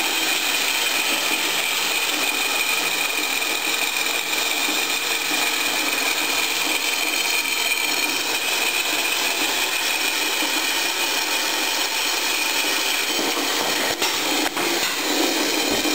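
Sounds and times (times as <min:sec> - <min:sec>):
band saw cutting metal: 0:00.0 - 0:15.9.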